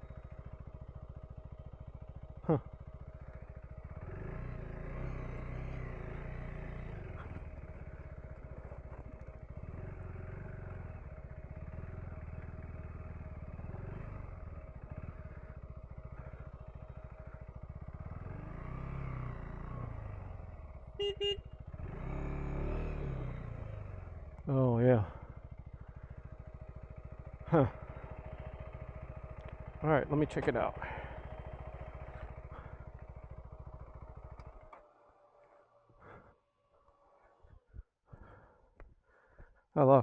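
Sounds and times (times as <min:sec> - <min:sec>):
motorcycle engine revving: 0:00.0 - 0:36.3.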